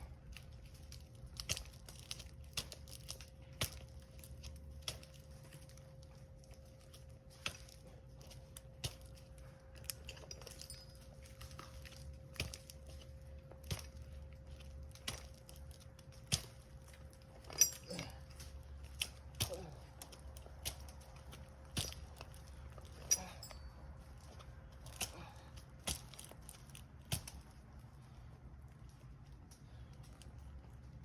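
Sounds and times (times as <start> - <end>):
faint steady hum: 0.0 - 31.0
climbing spikes stabbing tree trunk: 0.3 - 27.8.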